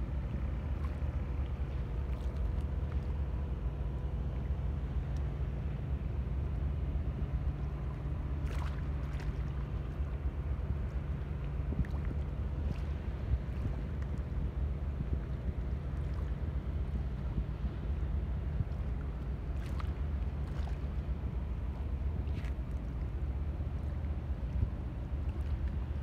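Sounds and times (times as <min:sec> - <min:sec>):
ship engine drone: 0:00.0 - 0:26.0.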